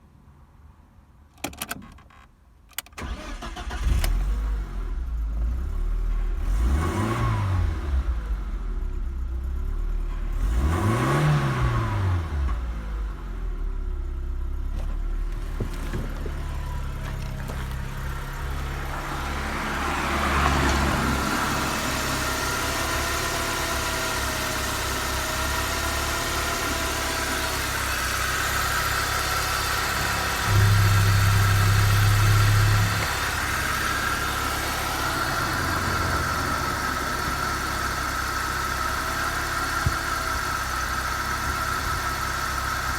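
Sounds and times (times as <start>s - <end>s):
car engine starting and revving: 3.0s - 42.9s.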